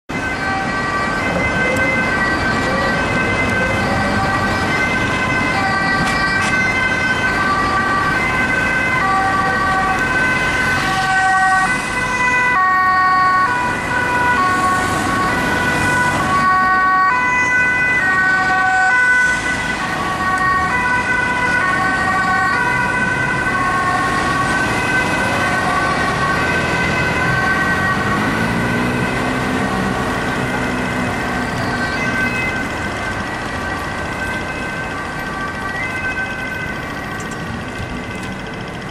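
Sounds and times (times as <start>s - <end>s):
passing road traffic: 0.1s - 38.9s
two-tone ambulance siren: 0.1s - 38.9s.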